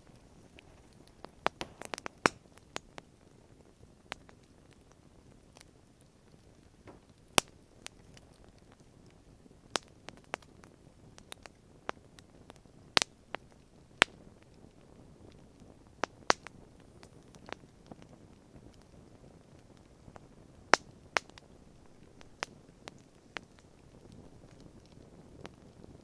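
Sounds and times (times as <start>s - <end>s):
campfire crackling: 0.0s - 26.0s
low hiss: 0.0s - 26.0s.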